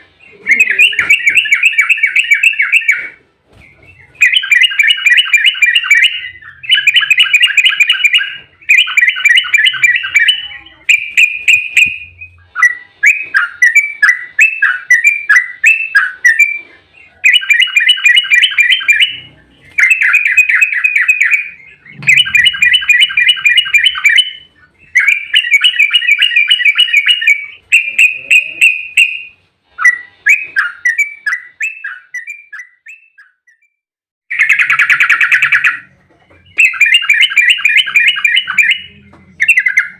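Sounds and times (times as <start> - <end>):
bulbul singing bubbling song: 0.3 - 3.1, 4.0 - 33.7.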